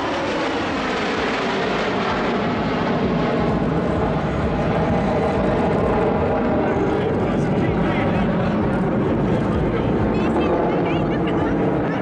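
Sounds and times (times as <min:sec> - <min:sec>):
fighter jets flying overhead: 0:00.0 - 0:12.0.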